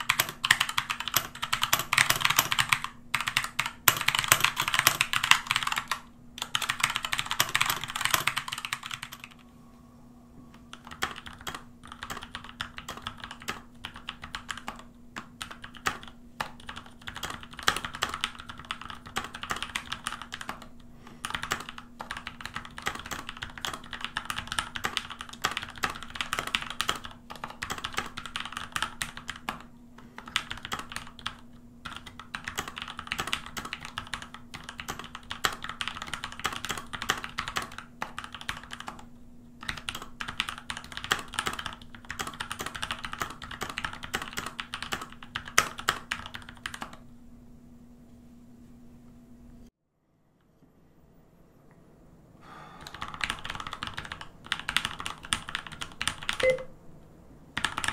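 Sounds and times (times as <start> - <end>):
mechanical keyboard typing: 0.0 - 9.4, 10.7 - 47.0, 52.8 - 56.7, 57.6 - 57.9.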